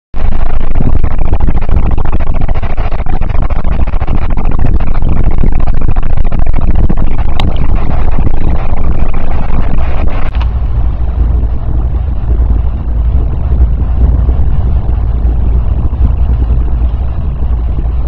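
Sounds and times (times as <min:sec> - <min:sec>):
train rumbling at speed: 0:00.2 - 0:18.0.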